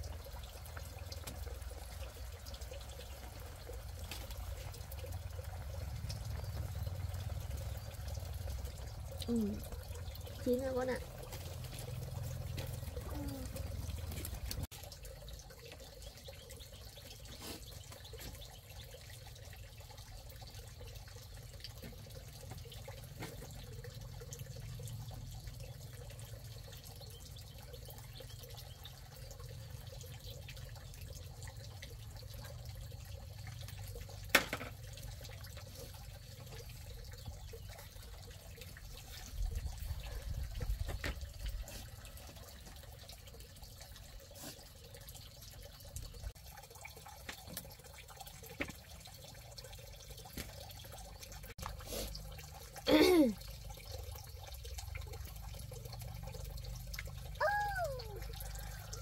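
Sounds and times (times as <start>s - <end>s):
water trickling and dripping: 0.0s - 59.0s.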